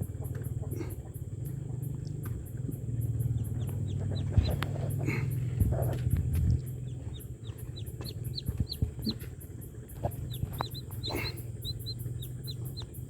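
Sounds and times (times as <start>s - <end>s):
chicks cheeping: 0.0s - 13.0s
steady low hum: 0.0s - 13.0s.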